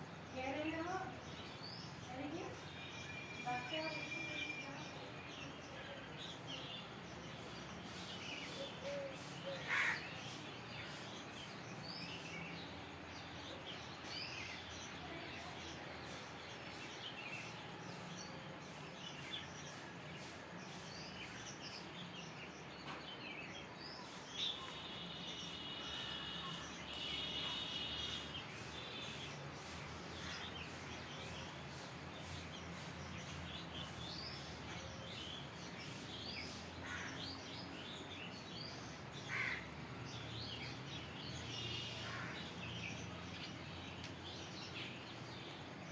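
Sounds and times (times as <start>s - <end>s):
birds chirping: 0.0s - 45.9s
outdoor background noise: 0.0s - 45.9s.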